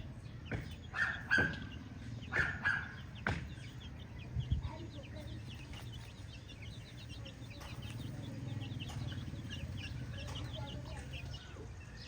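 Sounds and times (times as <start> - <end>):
chickens chirping and clucking: 0.0 - 12.0.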